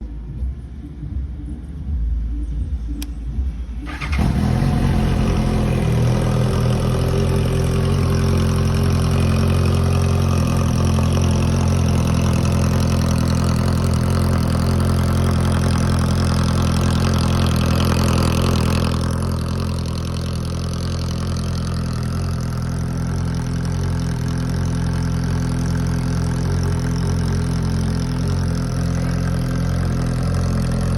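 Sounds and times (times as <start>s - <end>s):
motorcycle engine idling: 2.9s - 30.9s.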